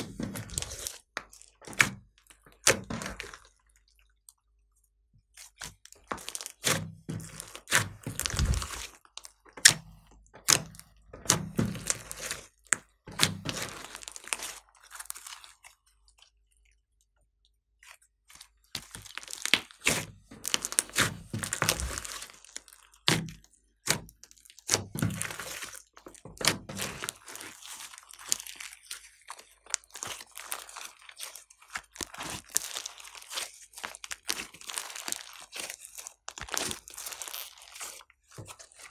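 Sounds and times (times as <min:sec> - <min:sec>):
slime crackling and popping: 0:00.0 - 0:04.4, 0:05.4 - 0:16.4, 0:17.8 - 0:38.9.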